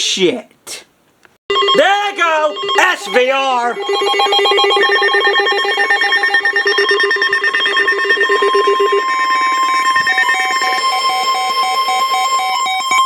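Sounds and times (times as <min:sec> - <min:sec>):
steady single tone: 0:01.5 - 0:13.0
warbling electronic alarm: 0:01.5 - 0:13.0.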